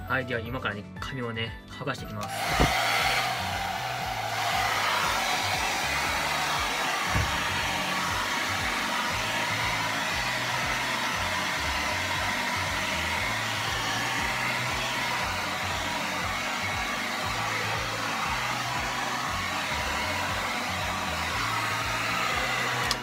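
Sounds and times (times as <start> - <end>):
hair dryer blowing: 2.2 - 23.0.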